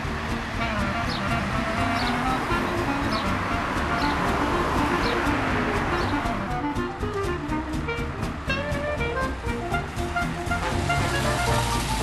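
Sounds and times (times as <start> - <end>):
melody over low bass: 0.0 - 12.0.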